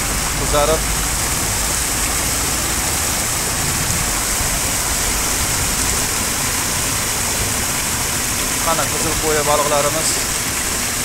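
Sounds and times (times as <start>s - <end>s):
water gushing from a chute: 0.0s - 11.0s
water splashing into a pond: 0.0s - 11.0s.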